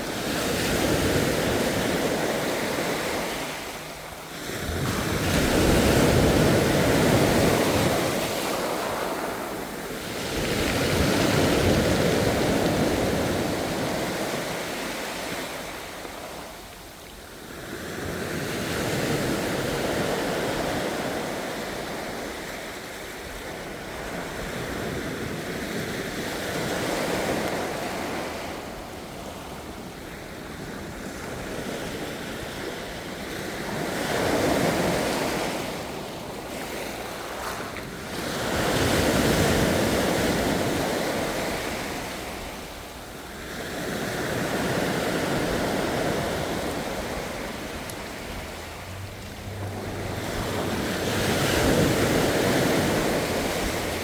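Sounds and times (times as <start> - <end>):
ocean waves breaking ashore: 0.0 - 54.0.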